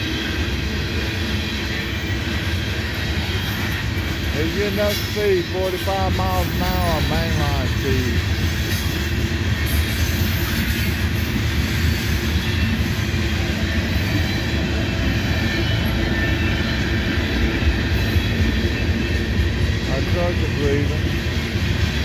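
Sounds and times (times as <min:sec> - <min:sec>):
freight train rolling over rails: 0:00.0 - 0:22.0.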